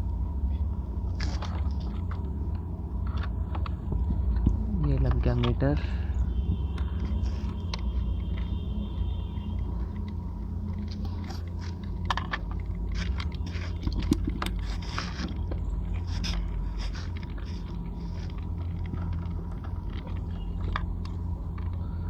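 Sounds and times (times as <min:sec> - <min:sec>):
handling clicks and scraping: 0:00.0 - 0:22.0
steady low rumble: 0:00.0 - 0:22.0.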